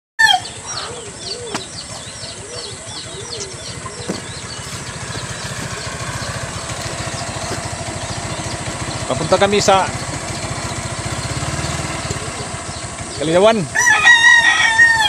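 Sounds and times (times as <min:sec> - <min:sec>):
small motorcycle engine idling: 0:00.2 - 0:15.0.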